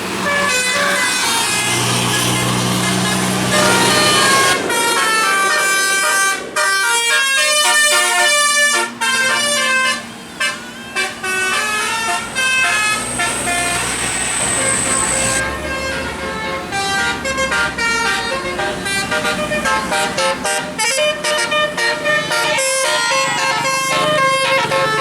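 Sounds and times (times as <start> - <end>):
musical bus air horn melody: 0.0 - 25.0.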